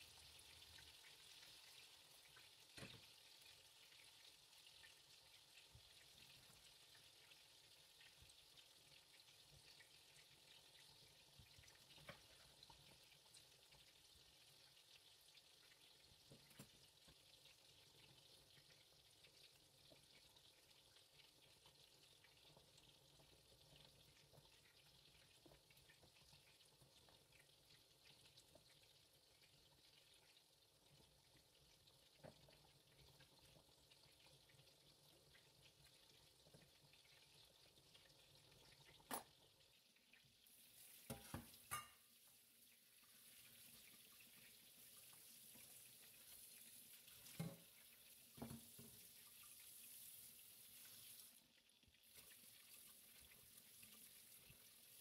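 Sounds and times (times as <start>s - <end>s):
meat sizzling in a pan: 0.0s - 55.0s.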